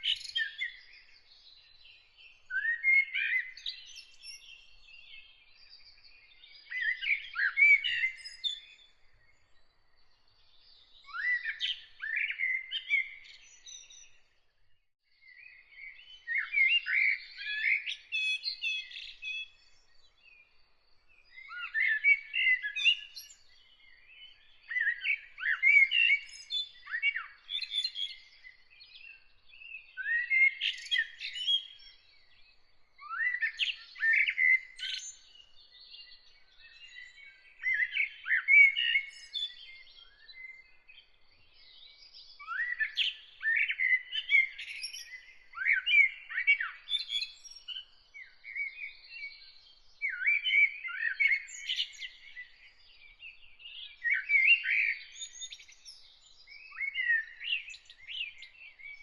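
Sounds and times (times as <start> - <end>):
songbird singing phrases: 0.0 - 59.0.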